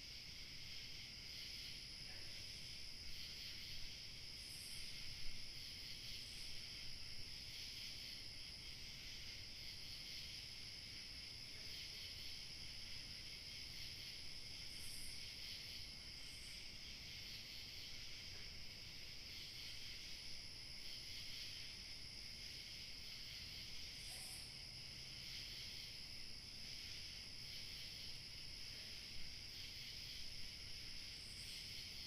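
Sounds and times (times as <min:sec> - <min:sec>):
crickets chirring: 0:00.0 - 0:32.0
high steady insect trill: 0:00.0 - 0:32.0.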